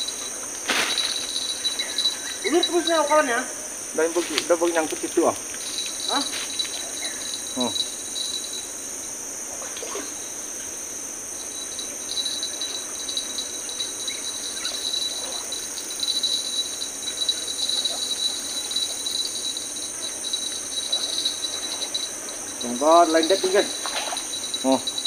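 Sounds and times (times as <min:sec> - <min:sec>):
high insect hiss: 0:00.0 - 0:25.0
insect pulsing trill: 0:00.0 - 0:25.0.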